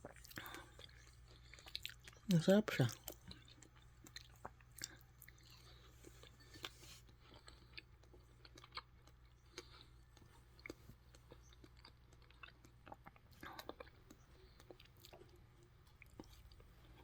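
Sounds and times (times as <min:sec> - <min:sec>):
kiwi fruit being chewed: 0:00.0 - 0:17.0.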